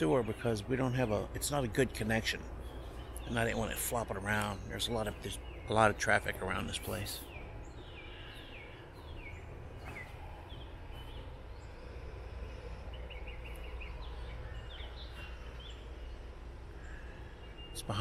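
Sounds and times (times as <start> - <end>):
birds chirping: 0.0 - 18.0
low background rumble: 0.0 - 18.0.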